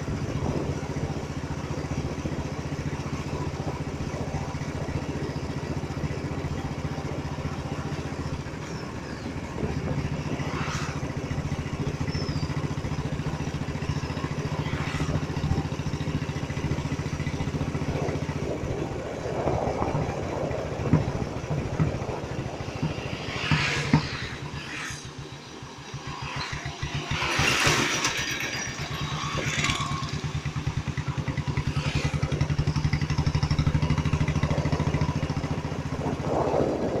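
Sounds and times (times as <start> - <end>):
motorcycle exhaust pulsing: 0.0 - 37.0
rushes of noise: 7.3 - 37.0.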